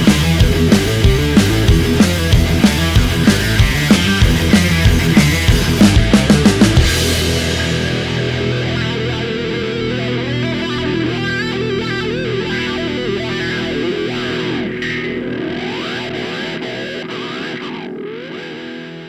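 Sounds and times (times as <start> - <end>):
distorted electric guitar music: 0.0 - 19.0.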